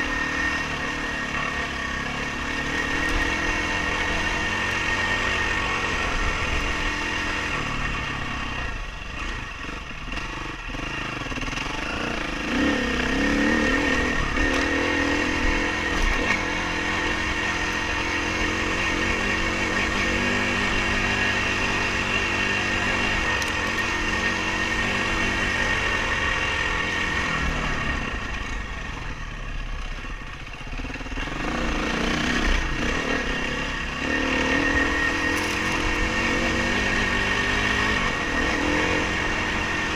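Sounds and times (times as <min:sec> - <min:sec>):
dirt bike engine revving: 0:00.0 - 0:28.7, 0:30.7 - 0:39.9.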